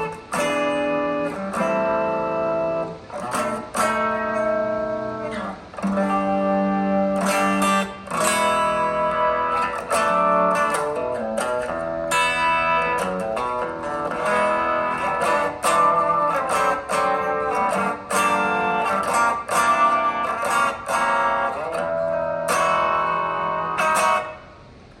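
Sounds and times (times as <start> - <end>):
clean electric guitar: 0.0 - 25.0.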